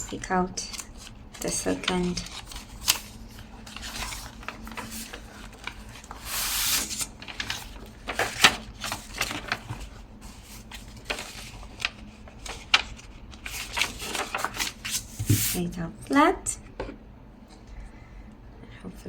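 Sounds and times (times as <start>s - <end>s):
paper rustling: 0.2s - 15.6s.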